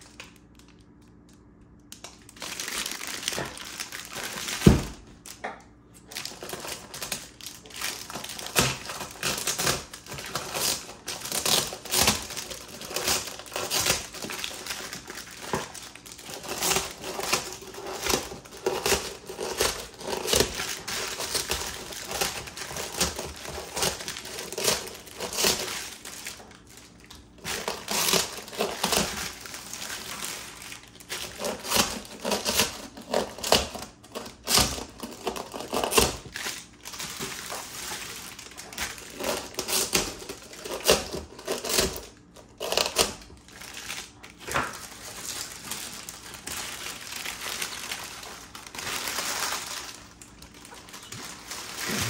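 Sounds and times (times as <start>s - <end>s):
plastic wrapping crinkling: 0.0s - 52.0s.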